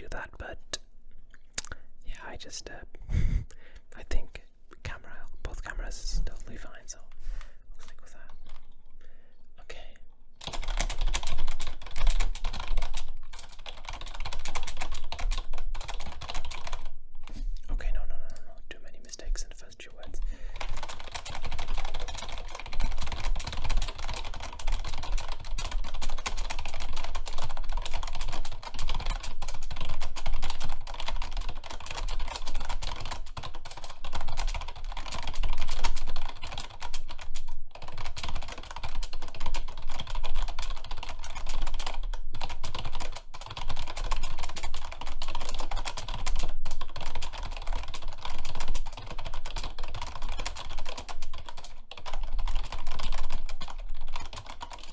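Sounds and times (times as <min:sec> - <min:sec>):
fast typing on keyboard: 0:05.7 - 0:09.2, 0:10.3 - 0:54.9.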